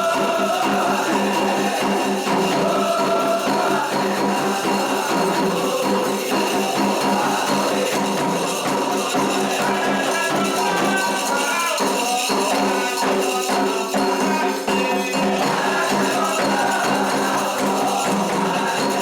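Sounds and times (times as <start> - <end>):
ritual drumming: 0.0 - 19.0
shaker rattles: 0.0 - 19.0.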